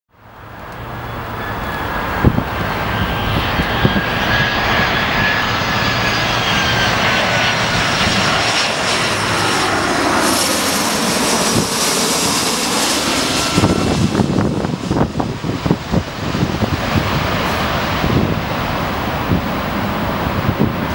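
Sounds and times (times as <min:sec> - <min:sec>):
high engine whine: 0:00.2 - 0:20.9
jet airliner passing overhead: 0:00.2 - 0:20.9.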